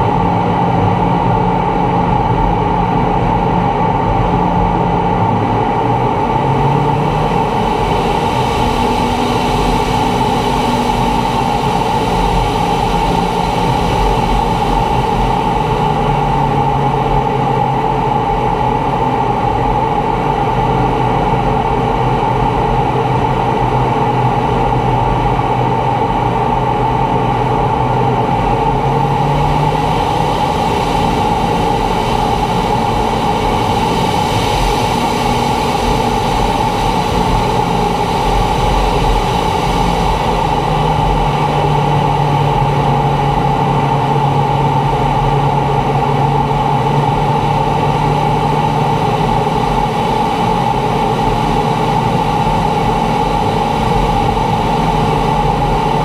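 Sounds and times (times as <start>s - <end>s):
jet aircraft in flight: 0.0s - 56.0s
low hum shifting pitch: 0.0s - 56.0s.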